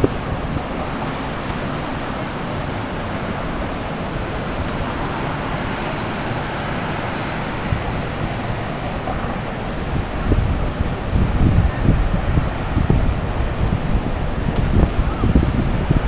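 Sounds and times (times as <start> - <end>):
road traffic hum: 0.0 - 16.0
wind on microphone: 0.0 - 16.0.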